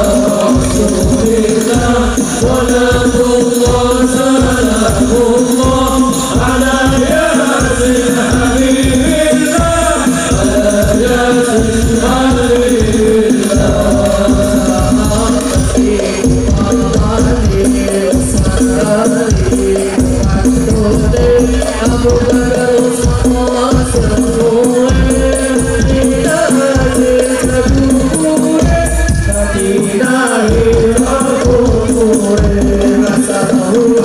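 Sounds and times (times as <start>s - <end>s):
frame drums beating: 0.0s - 34.0s
men singing together: 0.0s - 34.0s.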